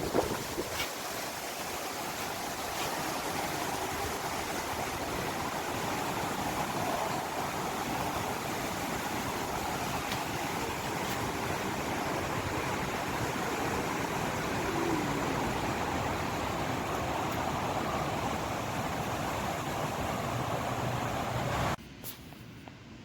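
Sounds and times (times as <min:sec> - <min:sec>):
wind on microphone: 0:00.0 - 0:21.8.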